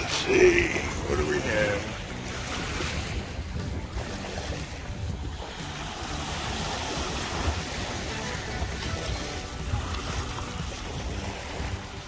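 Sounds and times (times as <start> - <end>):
small waves washing on sand: 0.0 - 12.0
wind buffeting microphone: 0.0 - 12.0.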